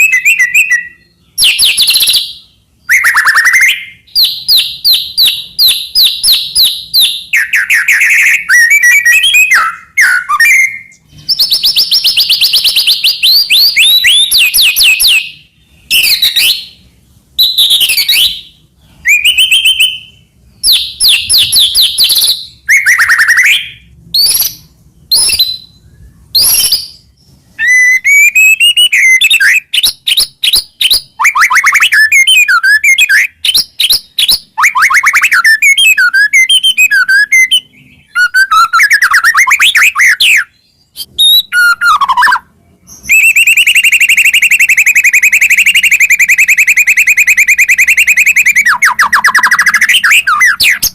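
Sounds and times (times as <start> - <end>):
songbird singing varied song: 0.0 - 50.9.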